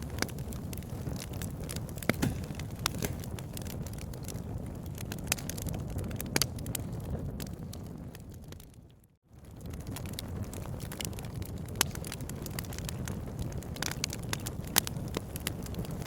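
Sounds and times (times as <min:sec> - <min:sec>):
wood fire crackling: 0:00.0 - 0:08.8, 0:09.4 - 0:16.0.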